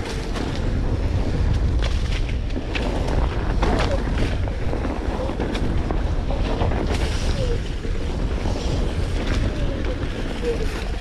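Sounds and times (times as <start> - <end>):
board rumbling over dirt: 0.0 - 11.0
wind buffeting microphone: 0.0 - 11.0.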